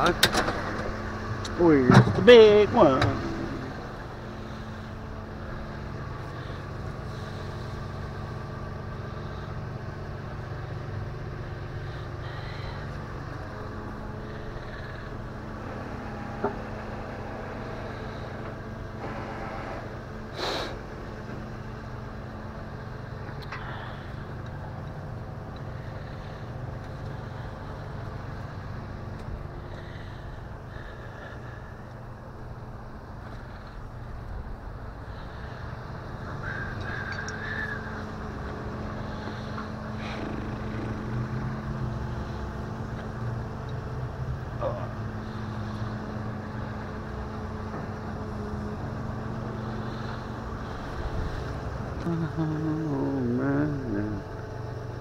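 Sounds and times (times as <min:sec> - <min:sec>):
tow truck engine idling: 0:00.0 - 0:55.0.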